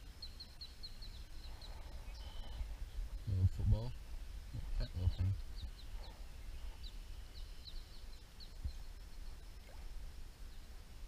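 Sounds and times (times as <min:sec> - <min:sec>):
small birds chirping: 0:00.0 - 0:10.8
low steady rumble: 0:00.0 - 0:11.0.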